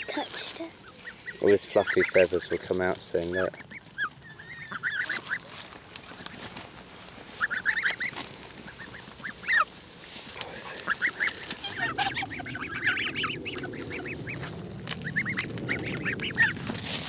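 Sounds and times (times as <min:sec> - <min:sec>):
geese peeping calls: 0:00.0 - 0:17.0.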